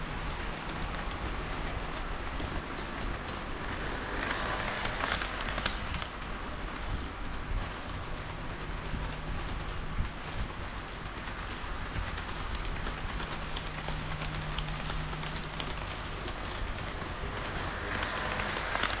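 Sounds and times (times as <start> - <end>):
model train rolling rumble: 0.0 - 19.0
wheels clicking over rail joints: 0.0 - 19.0.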